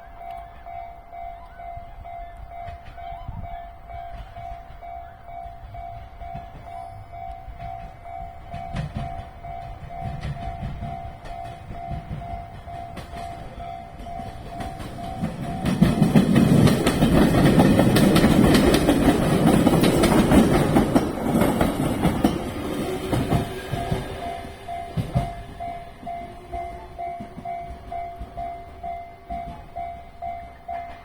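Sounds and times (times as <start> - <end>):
level crossing warning bell: 0.0 - 31.0
train wheels clattering on rails: 2.5 - 31.0.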